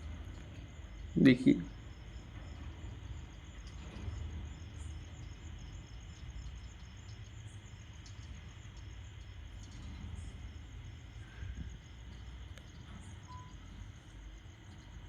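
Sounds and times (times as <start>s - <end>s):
high-pitched pulsing chirping: 0.0s - 14.2s
low hum: 0.0s - 15.0s.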